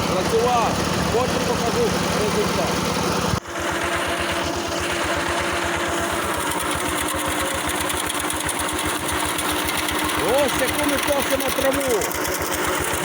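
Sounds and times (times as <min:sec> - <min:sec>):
tractor engine under load: 0:00.0 - 0:13.0.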